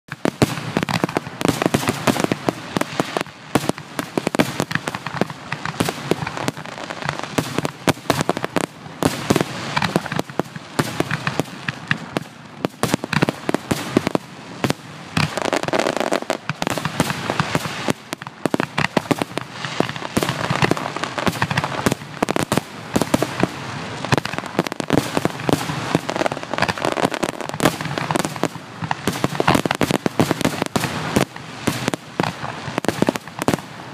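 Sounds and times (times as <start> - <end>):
fireworks bursting: 0.1 - 33.9.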